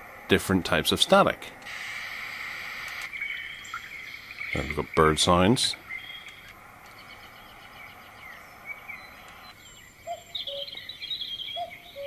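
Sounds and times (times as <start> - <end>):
steady hiss: 0.0 - 11.2
recorded birds chirping: 0.0 - 12.0.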